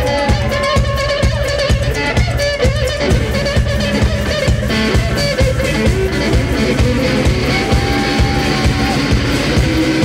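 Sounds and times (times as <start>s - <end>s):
drum beat: 0.0s - 10.0s
electric guitar: 0.0s - 10.0s.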